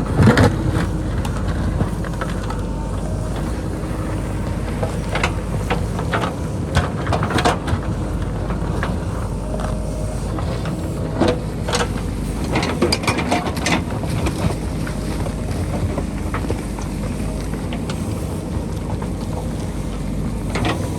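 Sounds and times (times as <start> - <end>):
diesel engine running under load: 0.0 - 20.9.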